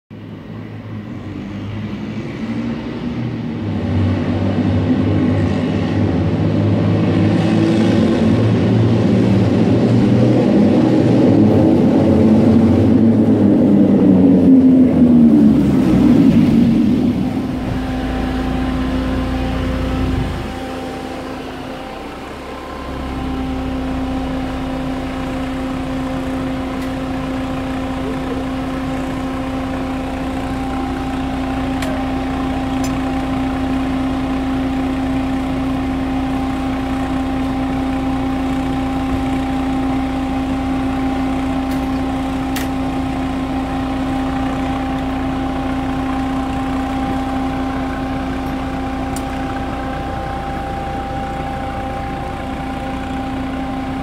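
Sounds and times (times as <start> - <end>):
tracked vehicle engine running: 0.1 - 54.0.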